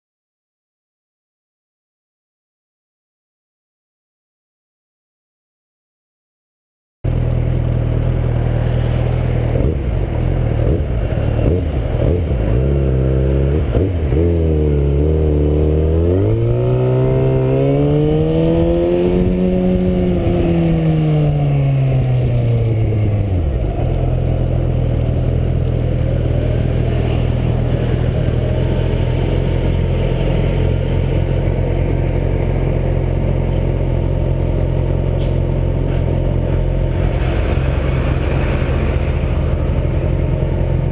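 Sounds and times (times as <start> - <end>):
motorcycle engine idling and revving: 7.0 - 40.9.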